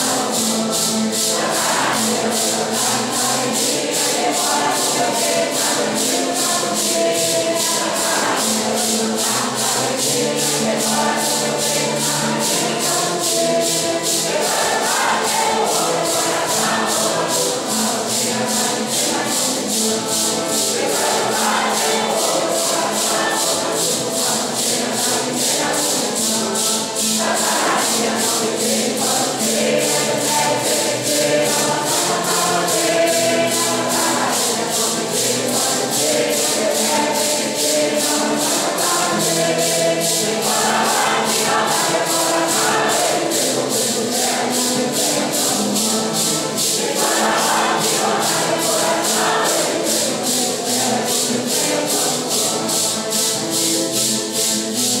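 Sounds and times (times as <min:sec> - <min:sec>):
congregation singing a hymn: 0:00.0 - 0:55.0
maracas shaking: 0:00.0 - 0:55.0.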